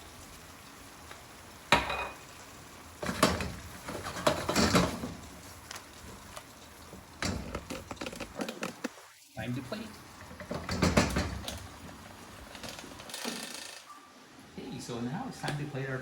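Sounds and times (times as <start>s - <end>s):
food frying: 0.0s - 16.0s.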